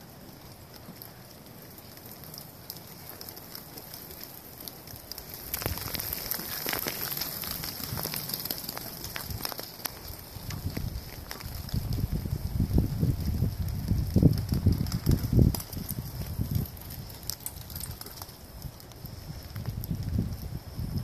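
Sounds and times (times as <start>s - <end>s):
light rain patter: 0.0s - 21.0s.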